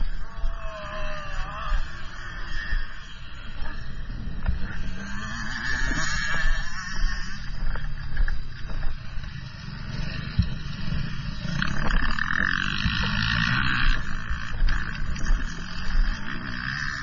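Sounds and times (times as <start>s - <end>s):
two-stroke motorbike engine buzzing: 0.0s - 17.0s
wind noise: 0.0s - 17.0s.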